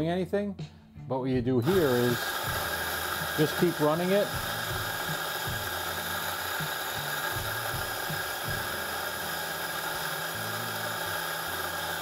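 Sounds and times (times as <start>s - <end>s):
coffee grinder grinding: 1.6s - 12.0s.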